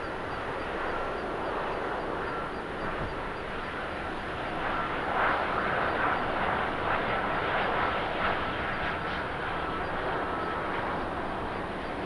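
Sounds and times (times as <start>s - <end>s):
jet engines rushing with whine: 0.0s - 12.0s.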